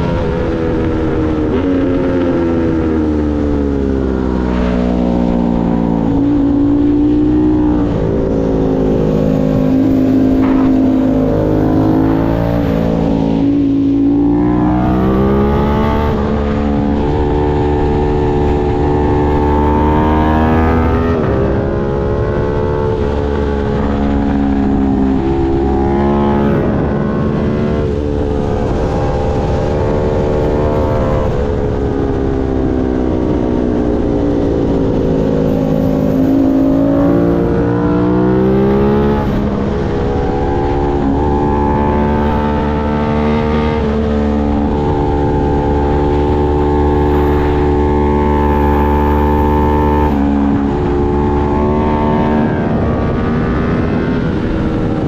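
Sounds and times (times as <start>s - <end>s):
motorcycle engine revving: 0.0s - 55.0s
wind rush over microphone: 0.0s - 55.0s.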